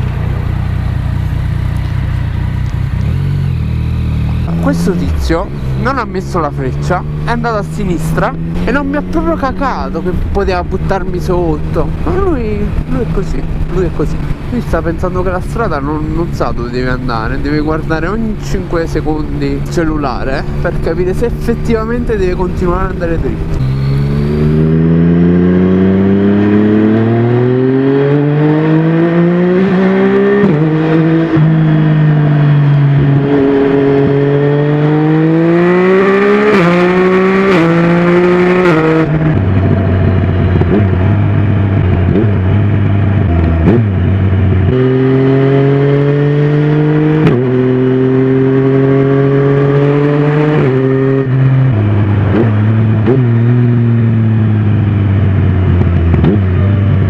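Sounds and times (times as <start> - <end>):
motorcycle accelerating through gears: 0.0 - 57.0.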